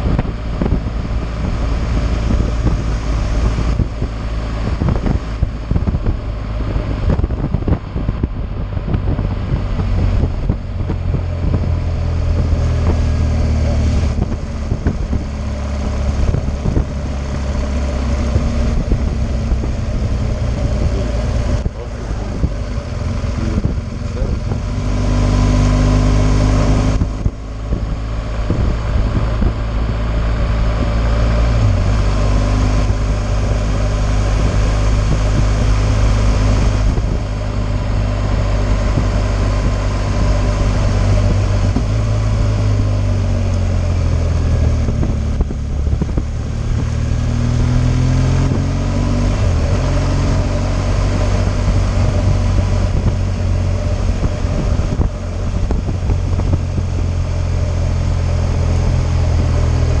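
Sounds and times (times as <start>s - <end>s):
motorcycle engine revving: 0.0s - 60.0s
wind noise: 0.0s - 60.0s.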